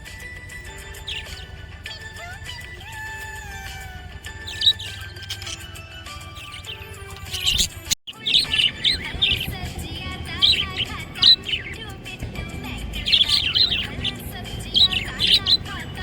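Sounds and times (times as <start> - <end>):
budgerigar chirping: 0.6 - 12.0, 12.6 - 16.0.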